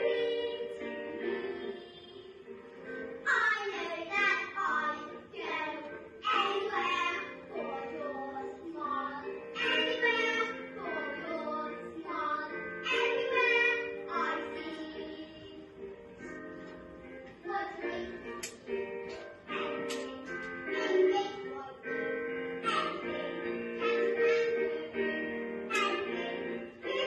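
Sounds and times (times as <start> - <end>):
girls singing a duet: 0.0 - 27.0.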